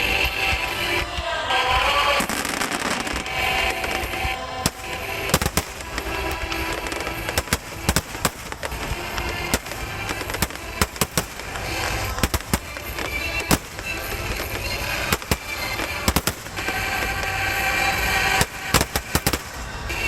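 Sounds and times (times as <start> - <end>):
fireworks bursting: 0.0 - 20.0
fireworks crackling: 0.0 - 20.0.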